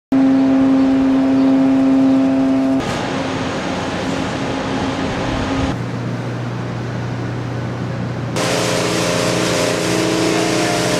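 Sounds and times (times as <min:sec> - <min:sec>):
machinery humming: 0:00.1 - 0:10.9.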